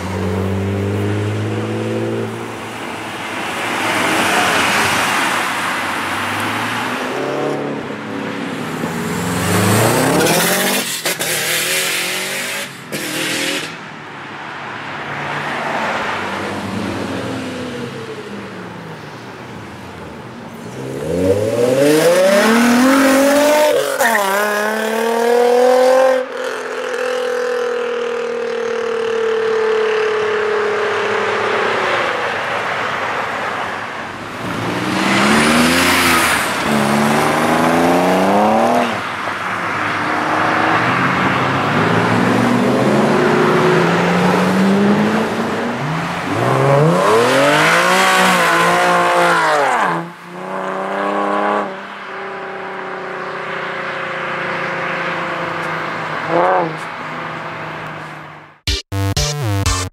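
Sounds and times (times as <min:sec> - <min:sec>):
sports car engines accelerating: 0:00.0 - 0:13.6, 0:20.5 - 0:58.0.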